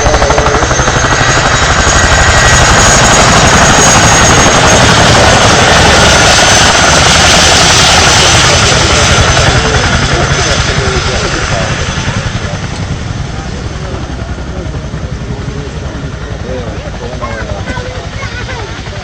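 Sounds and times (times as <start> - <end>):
helicopter rotors beating: 0.0 - 19.0
high turbine whine: 0.0 - 19.0.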